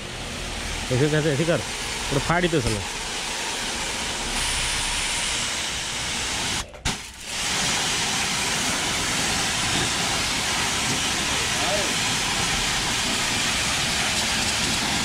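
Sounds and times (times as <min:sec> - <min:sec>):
pressure washer spray hissing: 0:00.7 - 0:15.0.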